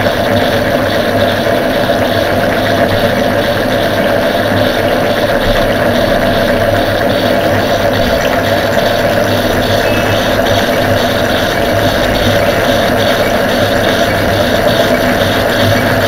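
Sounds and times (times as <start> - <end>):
lathe humming with regular beat: 0.0 - 16.0.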